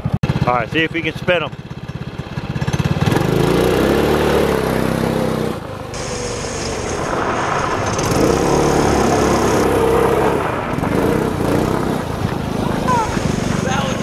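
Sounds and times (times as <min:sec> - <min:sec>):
small engine revving: 0:00.2 - 0:14.0
tires spinning on gravel: 0:00.4 - 0:14.0.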